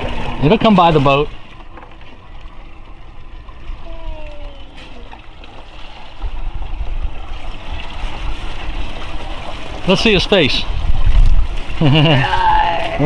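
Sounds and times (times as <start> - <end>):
water sloshing against boat: 0.0 - 13.0
wind buffeting microphone: 0.0 - 13.0.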